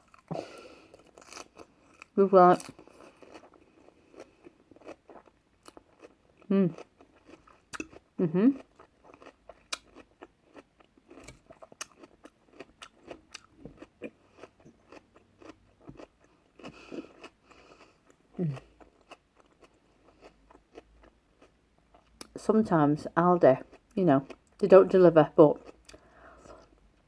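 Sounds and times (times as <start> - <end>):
chewing and crunching salad: 0.0 - 22.4, 23.1 - 26.8.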